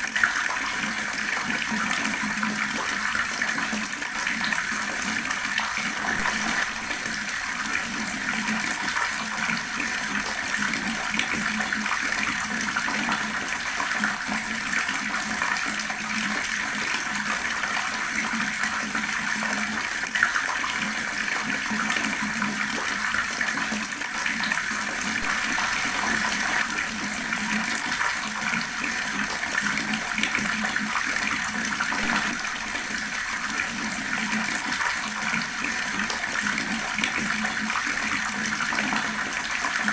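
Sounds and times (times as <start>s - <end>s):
water running from outdoor tap: 0.0s - 39.9s.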